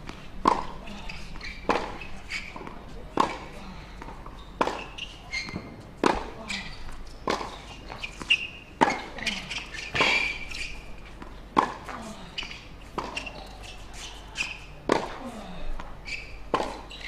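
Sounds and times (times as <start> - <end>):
tennis ball hit by racket: 0.1 - 6.4, 7.2 - 15.2, 16.5 - 17.0.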